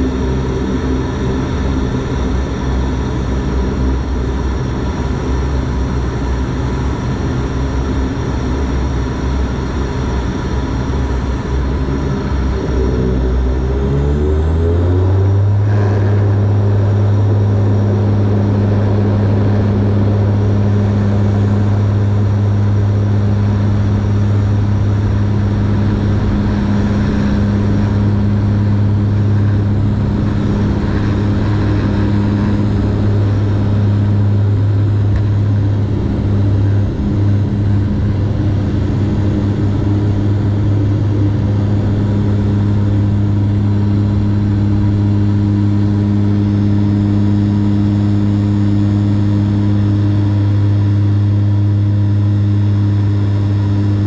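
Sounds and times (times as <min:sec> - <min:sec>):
turboprop engines droning: 0:00.0 - 0:54.0.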